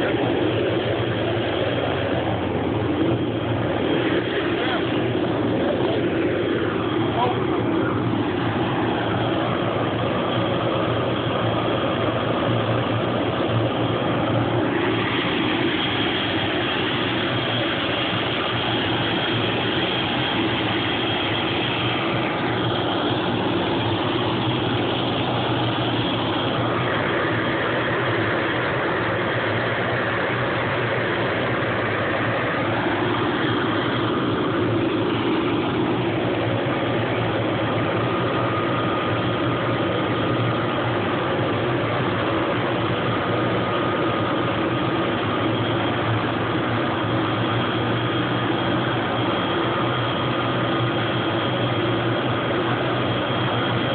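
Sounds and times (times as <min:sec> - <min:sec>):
helicopter engine idling: 0:00.0 - 0:53.9
high turbine whine: 0:00.0 - 0:53.9.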